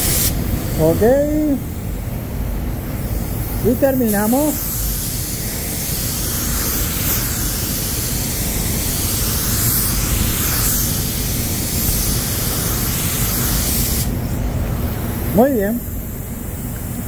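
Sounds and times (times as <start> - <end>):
spray gun hissing: 0.0 - 17.0.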